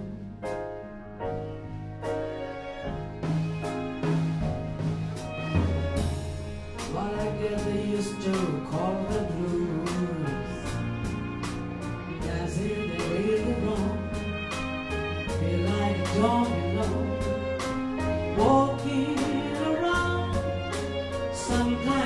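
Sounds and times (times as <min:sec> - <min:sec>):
bass line: 0:00.0 - 0:22.0
live band with strings: 0:00.0 - 0:22.0
piano: 0:00.0 - 0:22.0.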